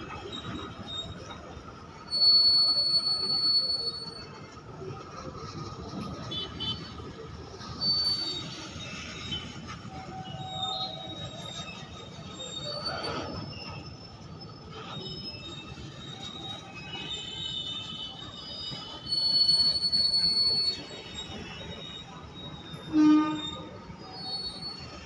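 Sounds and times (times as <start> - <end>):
high wheel squeals: 0.0 - 25.0
train wheels rumbling on rail: 0.0 - 25.0.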